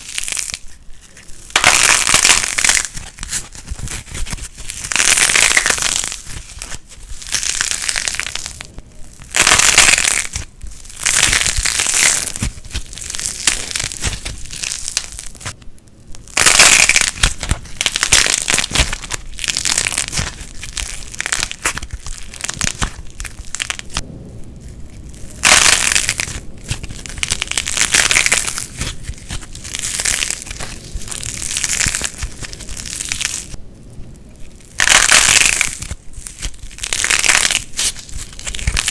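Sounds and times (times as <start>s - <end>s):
plasticine crackling: 0.0s - 38.9s.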